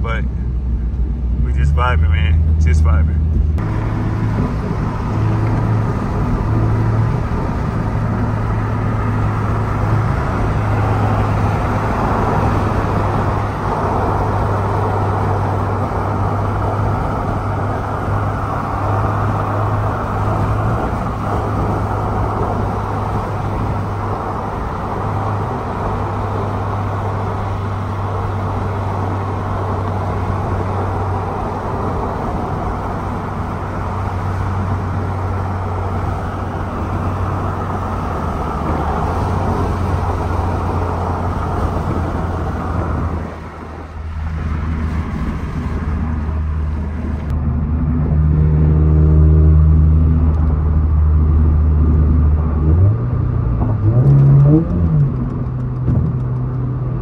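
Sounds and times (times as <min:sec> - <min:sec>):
car engine drone: 0:00.0 - 0:57.0
tyre and wind noise: 0:03.2 - 0:57.0.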